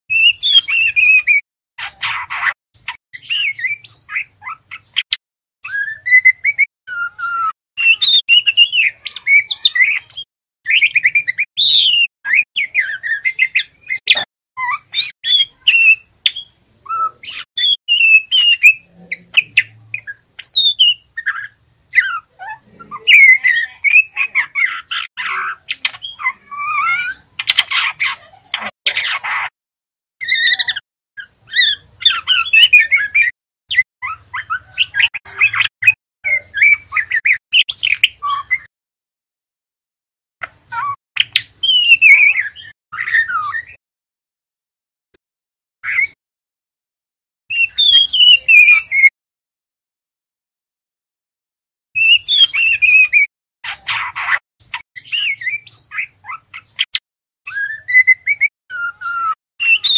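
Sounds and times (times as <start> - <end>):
songbird chirps and twitters: 0.1 - 29.5, 30.2 - 38.7, 40.4 - 43.8, 45.8 - 46.2, 47.5 - 49.1, 52.0 - 59.9.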